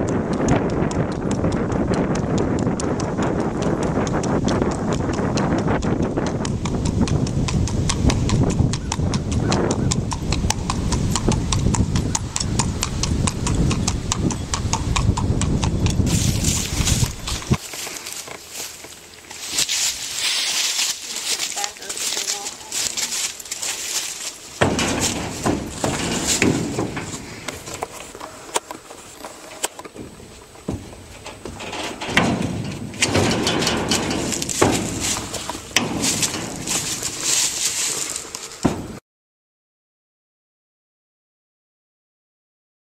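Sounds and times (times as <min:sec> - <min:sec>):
hooves on pavement: 0:00.0 - 0:39.0.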